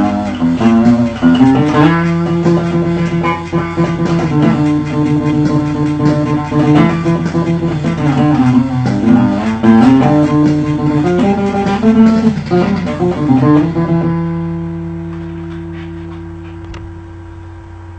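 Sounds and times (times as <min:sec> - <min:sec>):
acoustic guitar plucking low notes: 0:00.0 - 0:17.4.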